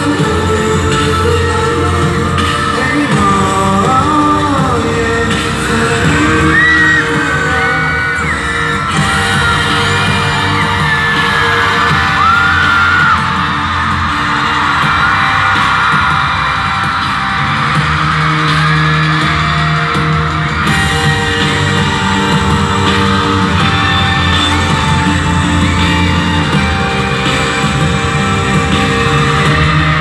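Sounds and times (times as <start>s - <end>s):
audience screaming and cheering: 0.0s - 30.0s
live music over a pa: 0.0s - 30.0s.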